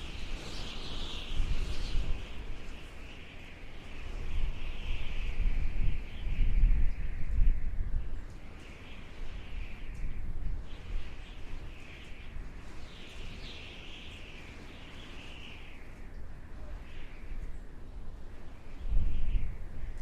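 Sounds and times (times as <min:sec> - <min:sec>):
high whistling wind tone: 0:00.0 - 0:20.0
howling wind: 0:00.0 - 0:20.0.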